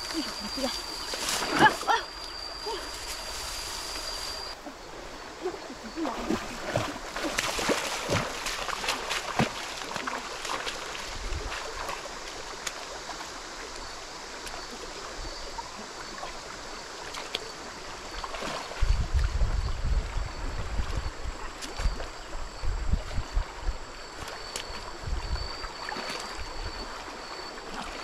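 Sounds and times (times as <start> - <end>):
splashes of wading: 0.0 - 28.0
stream water running: 0.0 - 28.0.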